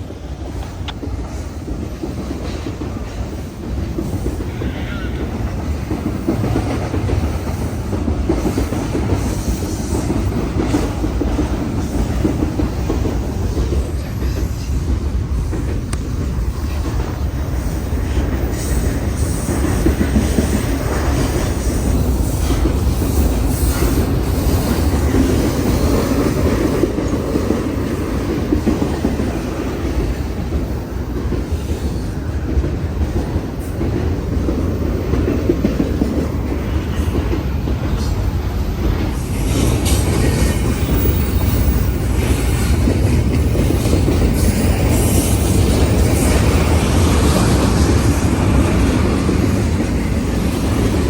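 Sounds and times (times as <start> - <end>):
train wheels on rails: 0.0 - 51.0.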